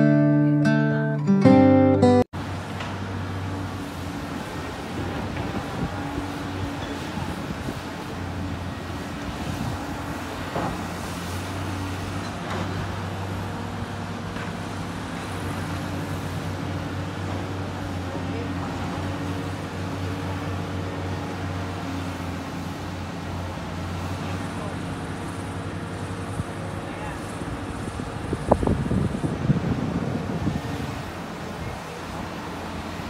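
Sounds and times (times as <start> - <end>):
excavator diesel engines digging: 2.4 - 33.0.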